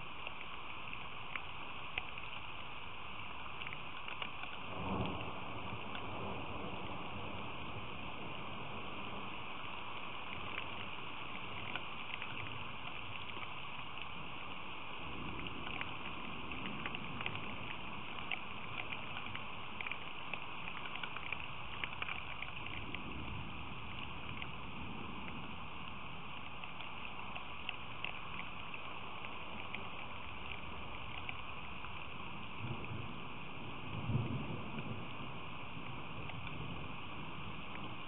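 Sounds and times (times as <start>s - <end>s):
raindrops ticking near microphone: 0.0s - 38.0s
steady rain falling: 0.0s - 38.0s.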